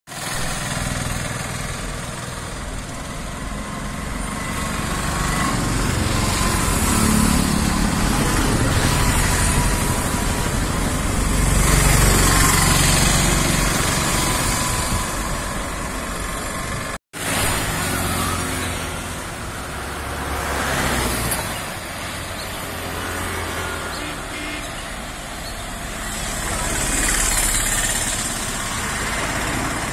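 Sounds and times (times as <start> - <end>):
cars and lorries passing: 0.1 - 29.9
motorbikes passing: 0.1 - 29.9.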